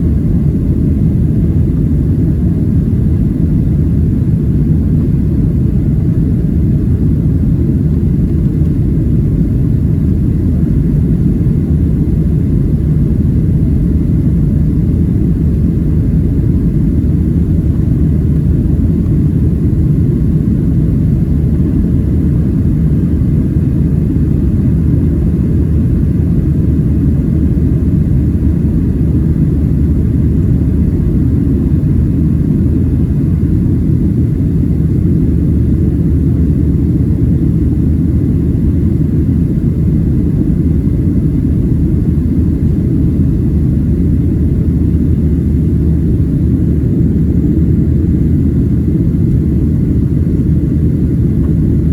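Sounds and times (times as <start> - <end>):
jet engines at climb power: 0.0 - 51.9.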